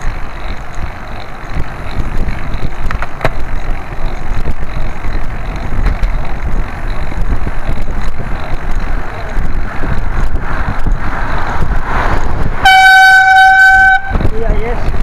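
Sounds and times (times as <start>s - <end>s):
road noise: 0.0s - 15.0s
wind noise on microphone: 0.0s - 15.0s.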